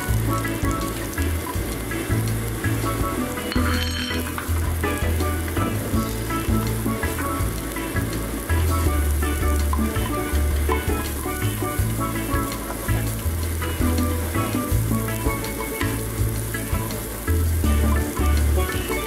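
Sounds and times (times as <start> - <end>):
background music with bass: 0.0 - 19.0
onions sizzling in hot oil: 0.0 - 19.0.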